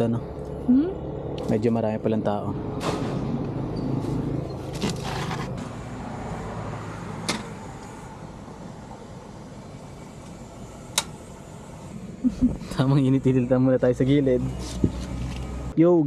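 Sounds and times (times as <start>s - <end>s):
vehicle engine hum: 0.0s - 15.8s.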